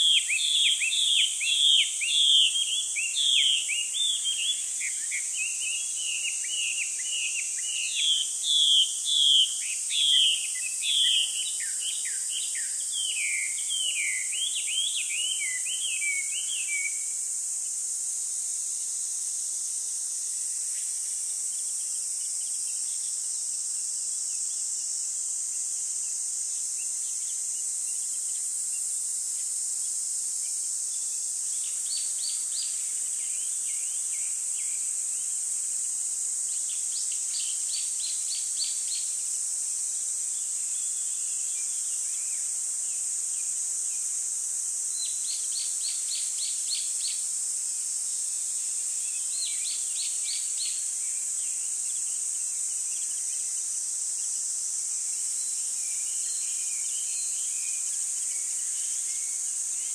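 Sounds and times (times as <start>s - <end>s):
steady high-pitched hiss: 0.0s - 59.9s.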